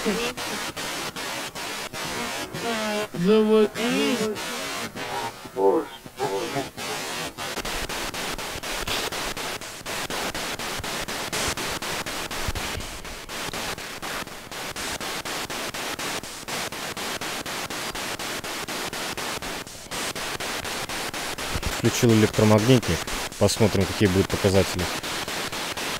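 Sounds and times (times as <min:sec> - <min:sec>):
radio static sweeping: 0:00.0 - 0:25.9.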